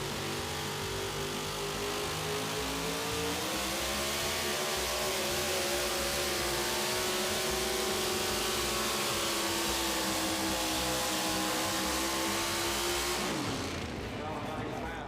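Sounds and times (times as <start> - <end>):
truck engine revving hard: 0.0 - 14.7.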